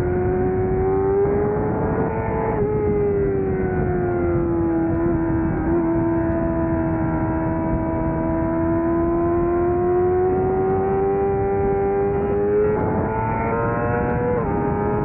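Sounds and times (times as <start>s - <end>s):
motorcycle engine at high revs: 0.0s - 15.0s
wind rush: 0.0s - 15.0s.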